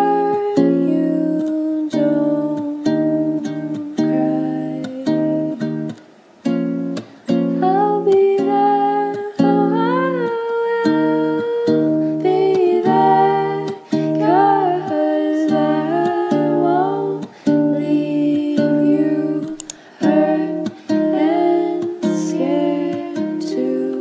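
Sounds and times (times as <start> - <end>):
soft song with plucked chords: 0.0 - 24.0.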